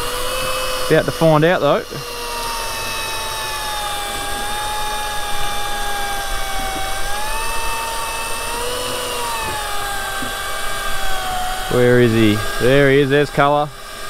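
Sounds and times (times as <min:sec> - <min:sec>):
electric fishing reel motor whining: 0:00.0 - 0:14.0.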